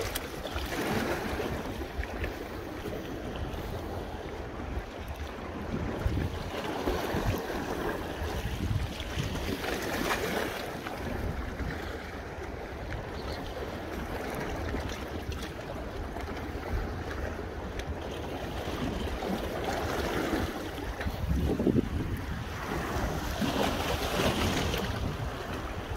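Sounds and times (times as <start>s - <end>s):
small waves washing against rocks: 0.0s - 12.6s, 13.8s - 25.9s
wind buffeting microphone: 0.0s - 25.9s.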